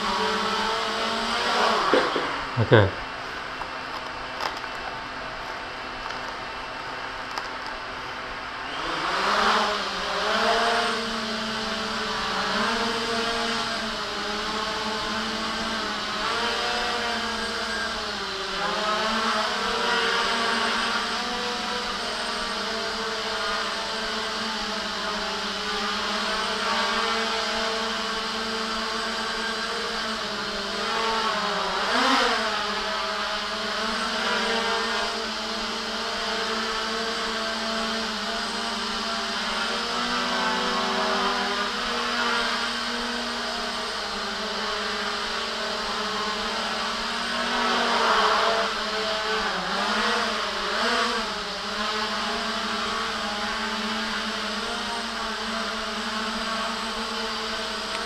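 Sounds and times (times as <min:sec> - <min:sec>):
quadcopter propellers whirring: 0:00.0 - 0:58.0.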